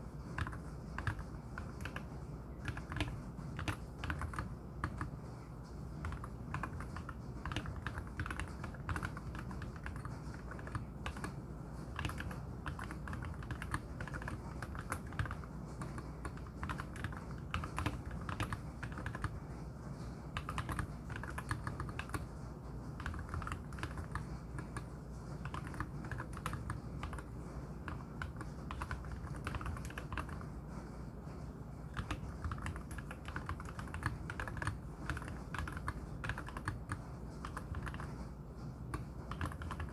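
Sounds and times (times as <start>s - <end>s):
mechanical keyboard typing: 0.3s - 5.2s, 6.0s - 19.4s, 20.4s - 22.3s, 23.0s - 30.5s, 31.9s - 38.2s, 38.9s - 39.9s.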